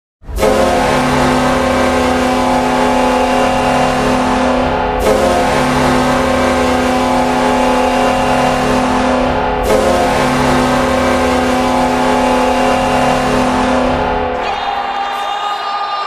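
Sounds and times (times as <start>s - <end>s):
goal horn blasting: 0.2s - 16.0s.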